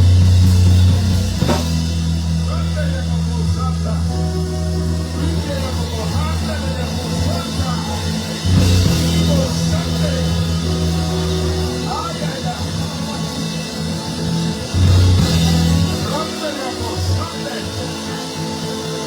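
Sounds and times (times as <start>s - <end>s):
church band playing: 0.0s - 19.0s
person praying: 2.4s - 14.6s, 15.2s - 19.0s.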